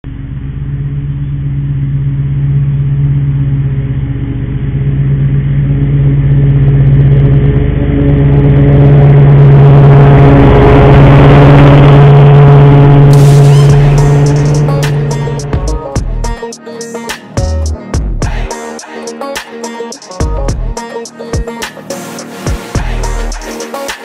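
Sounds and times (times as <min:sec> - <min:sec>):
mower engine running: 0:00.0 - 0:24.0.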